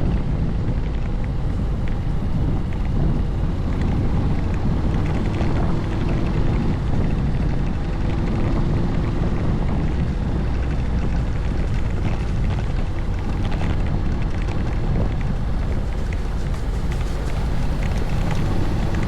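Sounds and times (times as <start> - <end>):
wind rushing over microphone: 0.0 - 19.0
scooter engine running: 1.0 - 19.0.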